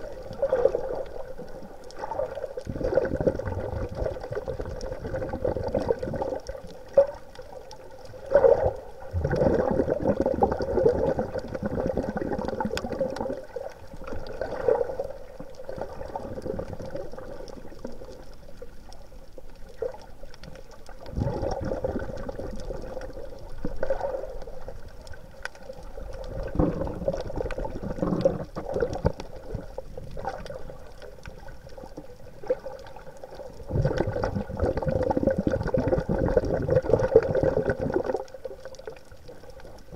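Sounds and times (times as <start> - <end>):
underwater water sloshing: 0.0 - 39.9.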